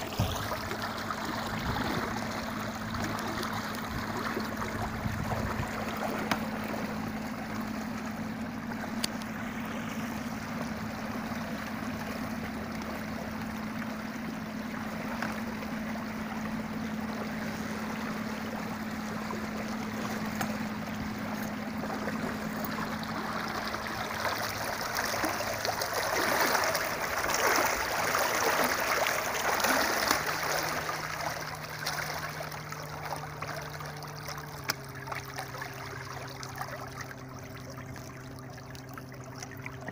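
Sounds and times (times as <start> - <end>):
electric trolling motor hum: 0.0 - 39.9
water splashing along boat hull: 0.0 - 39.9.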